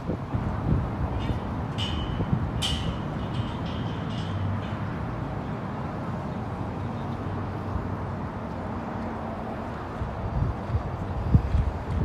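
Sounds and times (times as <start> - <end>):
low rumble of waterfront: 0.0 - 12.0.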